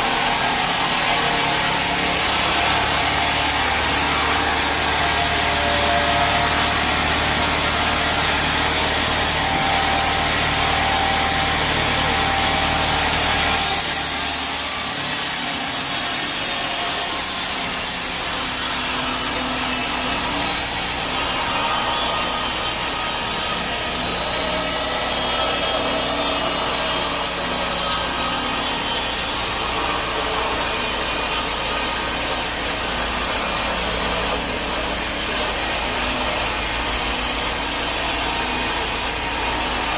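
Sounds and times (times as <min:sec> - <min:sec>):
band saw cutting log: 0:00.0 - 0:39.9
sawmill machine hum: 0:00.0 - 0:39.9.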